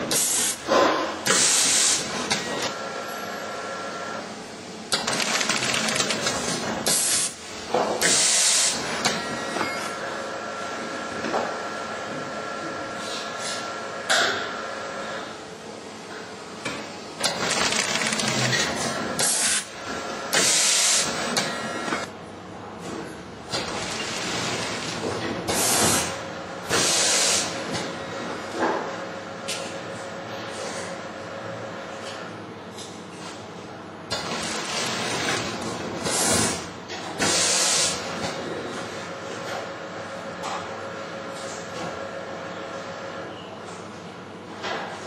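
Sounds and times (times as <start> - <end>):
bagging machine humming: 0.0 - 44.6.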